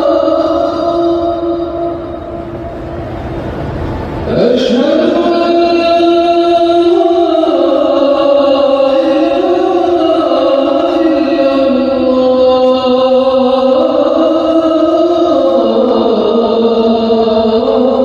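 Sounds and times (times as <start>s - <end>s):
person chanting: 0.0s - 2.8s, 4.2s - 18.0s.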